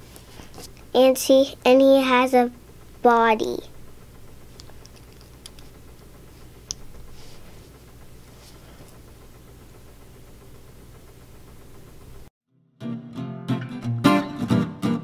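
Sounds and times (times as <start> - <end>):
low room hum: 0.0 - 12.3.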